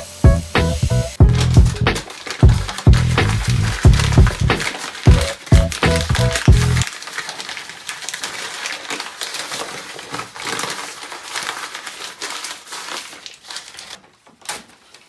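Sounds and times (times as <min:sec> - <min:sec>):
material crinkling and rustling: 0:01.2 - 0:15.0.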